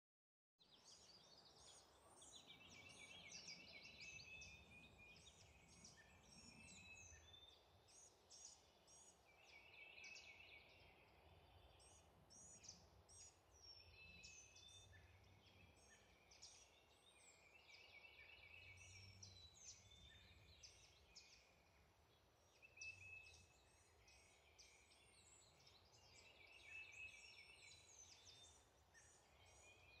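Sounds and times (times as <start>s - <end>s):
songbirds chirping: 0.6s - 30.0s.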